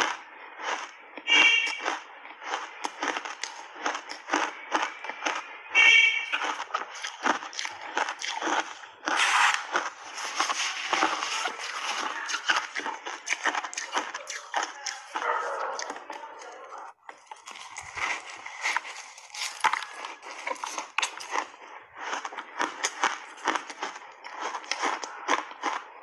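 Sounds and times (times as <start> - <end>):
crunching ice bar: 0.0 - 26.0.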